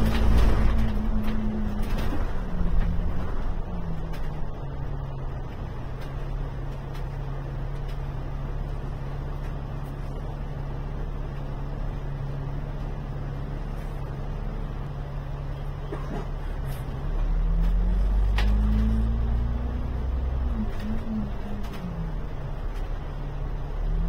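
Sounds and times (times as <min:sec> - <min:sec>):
bus engine humming: 0:00.0 - 0:24.0
road noise rumble: 0:00.0 - 0:24.0.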